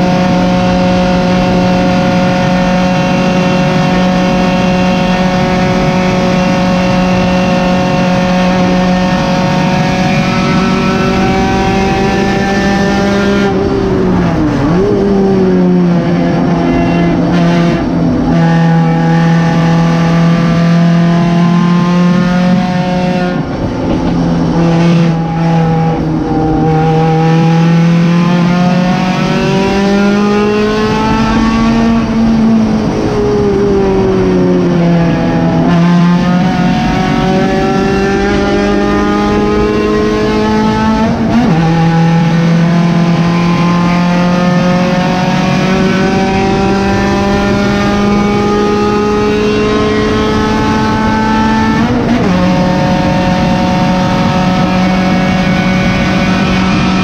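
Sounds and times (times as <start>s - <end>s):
car engine under load: 0.0s - 57.0s.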